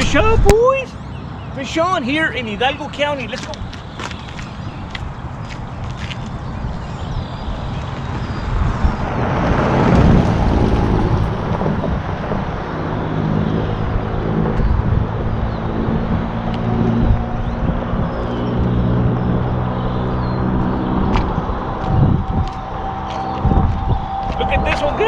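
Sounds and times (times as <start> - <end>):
rush of noise: 2.0 - 25.0
low engine hum: 3.2 - 25.0.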